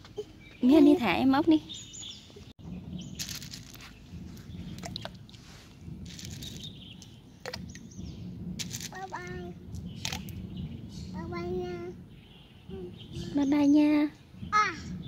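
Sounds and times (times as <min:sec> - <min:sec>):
small birds chirping: 0:00.0 - 0:15.0
low rumble: 0:02.6 - 0:15.0.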